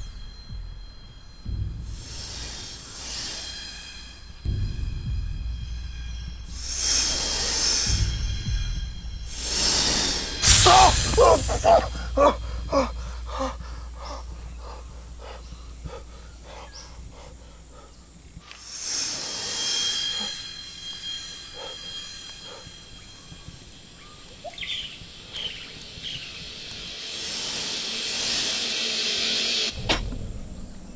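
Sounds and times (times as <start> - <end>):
jungle ambience: 0.0 - 30.9.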